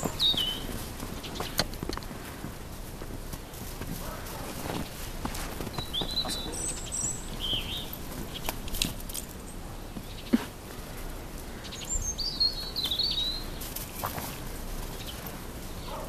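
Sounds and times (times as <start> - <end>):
footsteps crunching in snow: 0.0 - 11.6, 12.2 - 16.0
small birds chirping: 0.0 - 16.0.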